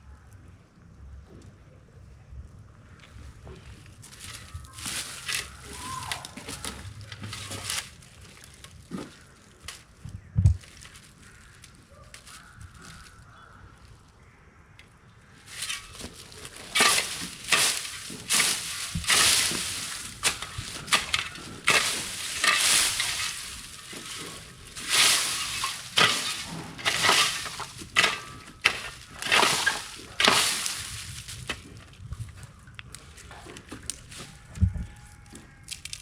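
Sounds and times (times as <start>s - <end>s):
dry plants crunching and rustling: 2.8s - 14.4s, 15.2s - 36.0s.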